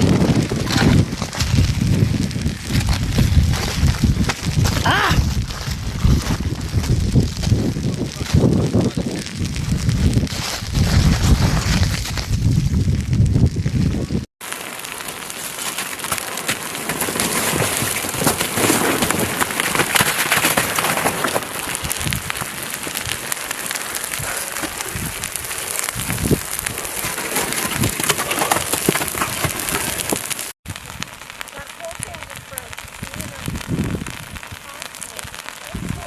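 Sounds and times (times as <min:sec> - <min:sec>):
lava flow hissing and crackling: 0:00.0 - 0:36.0.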